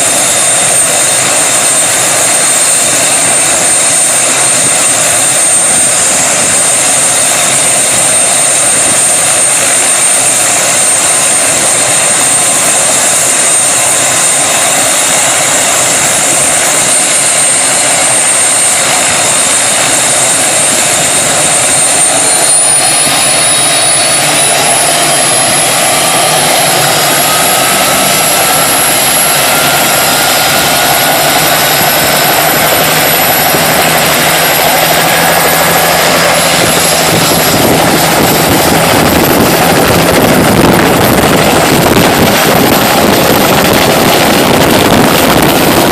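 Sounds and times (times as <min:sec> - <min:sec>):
helicopter engine and rotor: 0:00.0 - 0:45.9.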